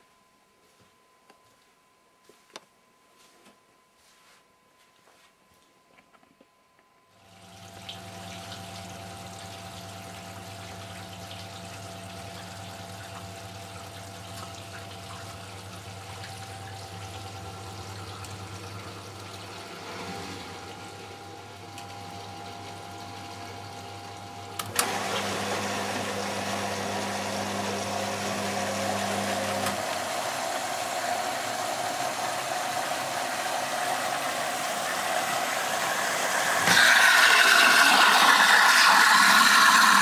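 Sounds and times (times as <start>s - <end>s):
water rushing into washing machine: 7.3s - 40.0s.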